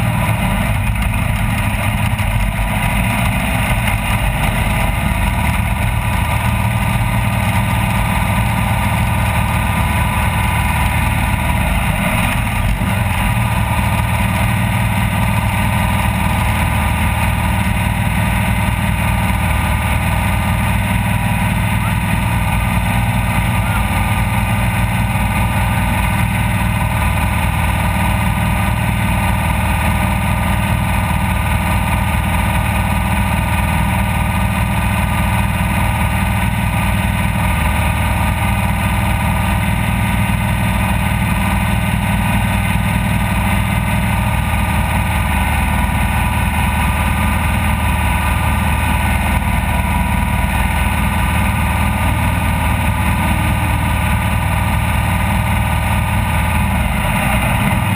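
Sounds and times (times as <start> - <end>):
race vehicle engine running: 0.0 - 57.9.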